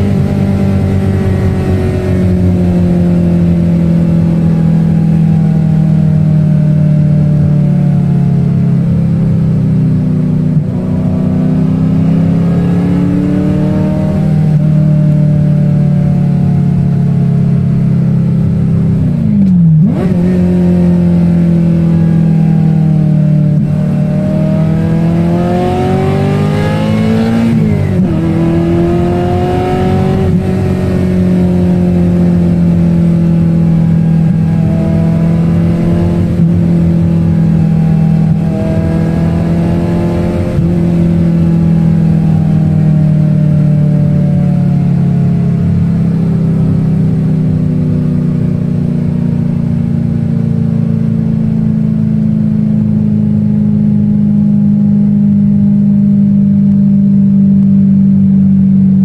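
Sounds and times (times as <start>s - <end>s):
car engine revving in cabin: 0.0s - 59.0s.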